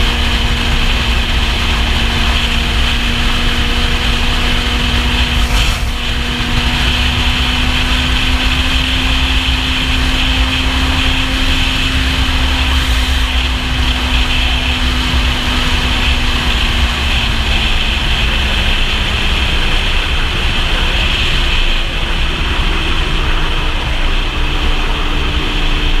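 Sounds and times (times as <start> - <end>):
motorcycle engine cruising: 0.0 - 26.0
wind rush and buffeting: 0.0 - 26.0.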